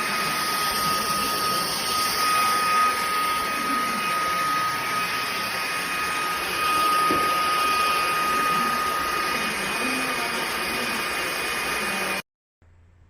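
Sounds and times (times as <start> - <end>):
handheld vacuum cleaner motor whine: 0.0 - 12.2.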